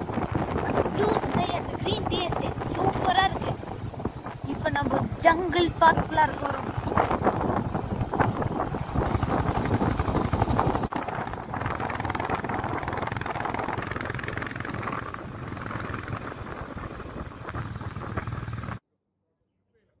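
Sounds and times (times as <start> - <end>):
motorcycle engine running: 0.0 - 18.8
wind rushing over microphone: 0.0 - 18.8.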